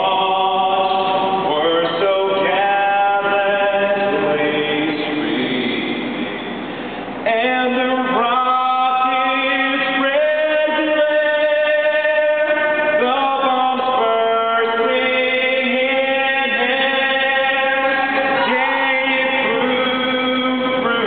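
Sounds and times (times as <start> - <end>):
young man singing into microphone: 0.0 - 6.1, 7.2 - 21.0.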